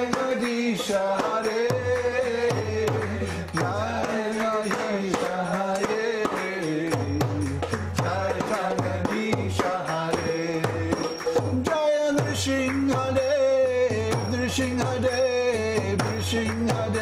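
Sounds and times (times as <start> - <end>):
man singing a chant: 0.0 - 17.0.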